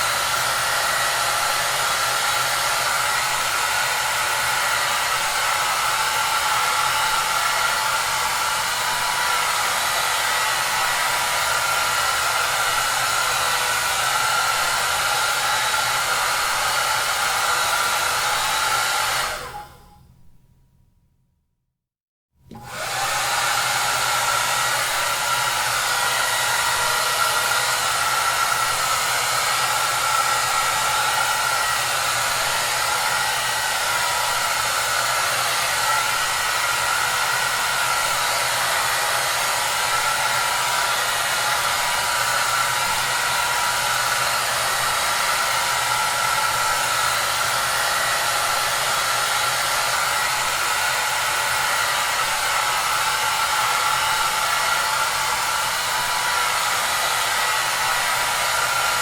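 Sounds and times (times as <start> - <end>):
hair dryer running: 0.0 - 19.9, 22.5 - 59.0.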